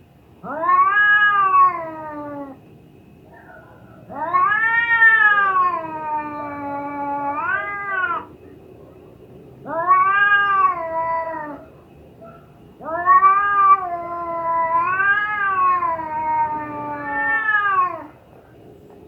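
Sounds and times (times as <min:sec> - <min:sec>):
cat yowling: 0:00.4 - 0:02.6, 0:03.4 - 0:08.3, 0:09.6 - 0:18.2.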